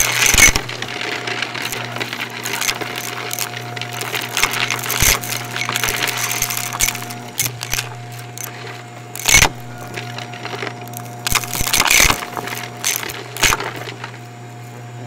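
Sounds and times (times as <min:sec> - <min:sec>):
debris crackling in vacuum: 0:00.0 - 0:15.0
vacuum cleaner motor hum: 0:00.0 - 0:15.0.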